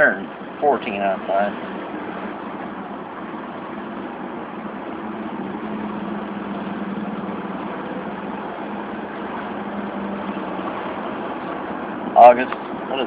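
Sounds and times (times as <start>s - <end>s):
car engine hum: 0.0s - 13.0s
traffic noise: 0.0s - 13.0s.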